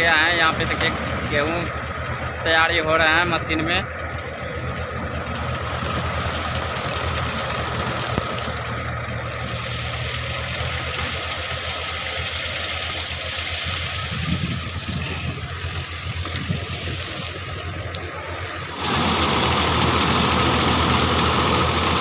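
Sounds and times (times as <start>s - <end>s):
tractor driven thresher running: 0.0s - 22.0s.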